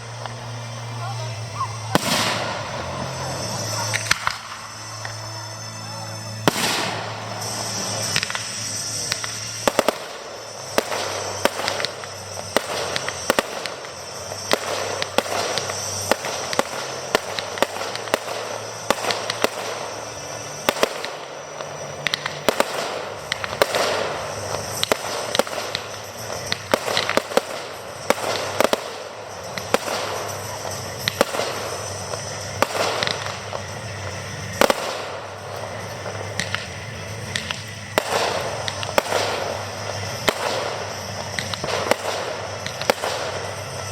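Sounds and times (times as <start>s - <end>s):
firework shell bursts: 0.0s - 43.9s
fireworks crackling: 0.0s - 43.9s.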